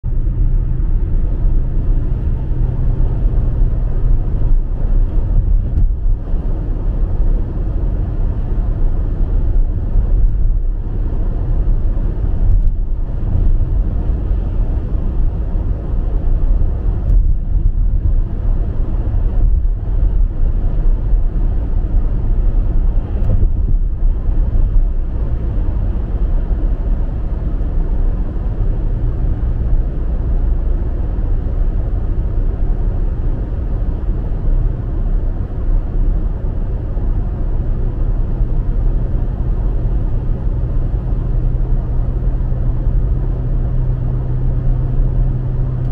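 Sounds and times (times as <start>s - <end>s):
engine drone: 0.0s - 45.9s.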